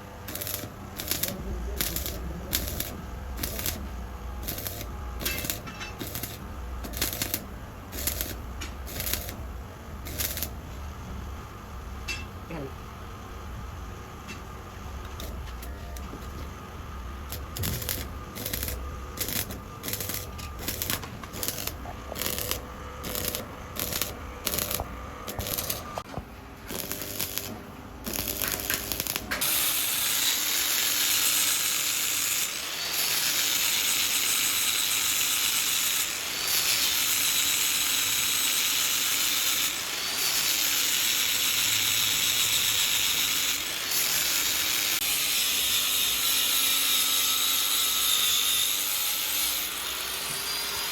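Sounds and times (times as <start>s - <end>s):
loud hissing tool: 0.3s - 9.4s, 10.0s - 10.6s, 17.3s - 26.0s, 26.7s - 50.9s.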